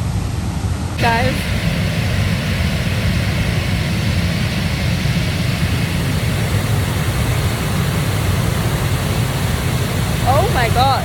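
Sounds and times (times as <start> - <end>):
deep rumble: 1.0 - 11.0
water jet gushing: 1.0 - 11.0.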